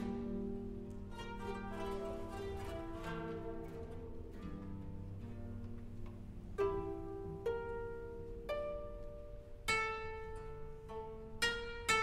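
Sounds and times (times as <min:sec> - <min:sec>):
koto plucked notes: 0:00.0 - 0:12.0.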